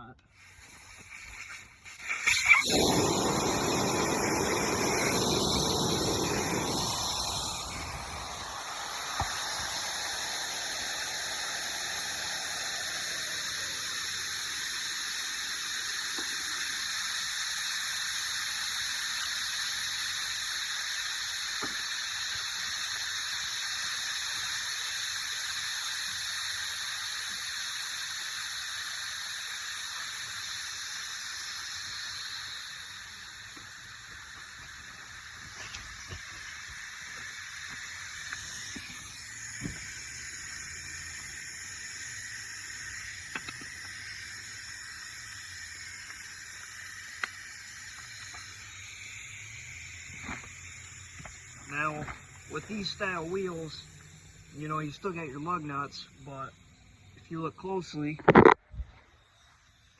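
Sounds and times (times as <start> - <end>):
air hissing out of a tire valve: 0.0 - 59.9.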